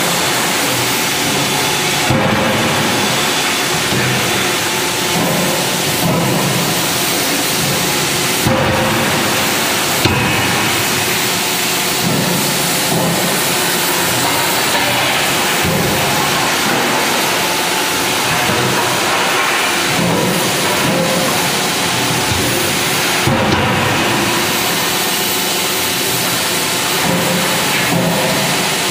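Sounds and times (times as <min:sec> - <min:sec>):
loud machinery din: 0:00.0 - 0:28.1.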